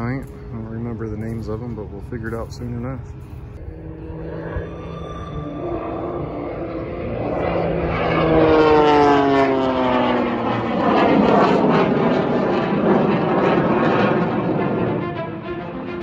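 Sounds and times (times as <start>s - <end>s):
rushing engine noise: 0.0s - 16.0s
turbine plane whine: 0.0s - 16.0s.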